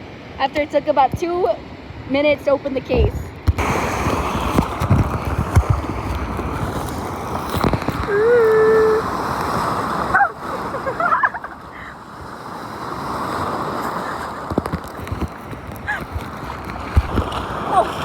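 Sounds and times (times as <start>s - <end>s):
waves splashing: 0.0s - 18.0s
seawater sloshing: 3.5s - 18.0s.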